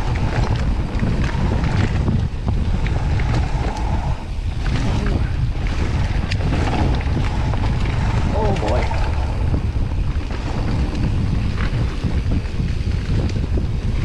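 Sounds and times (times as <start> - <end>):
bike clicks and rattles: 0.0 - 14.0
bike tyres rolling on dirt: 0.0 - 14.0
wind buffeting microphone: 0.0 - 14.0.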